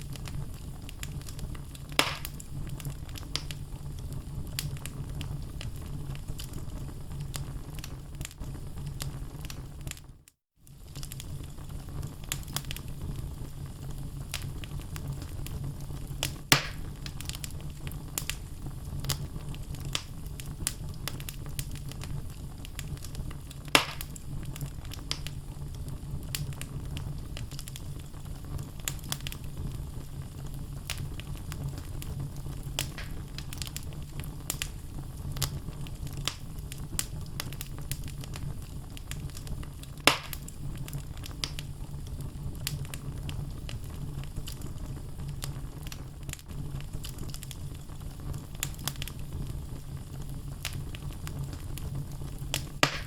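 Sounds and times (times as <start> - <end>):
loud pops from fire: 0.0 - 10.0, 10.6 - 53.0
logs crackling in fireplace: 0.0 - 53.0.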